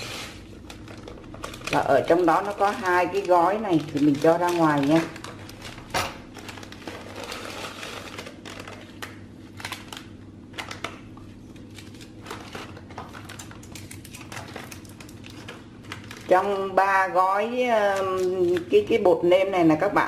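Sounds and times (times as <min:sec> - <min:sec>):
plastic wrappers crinkling: 0:00.0 - 0:19.3.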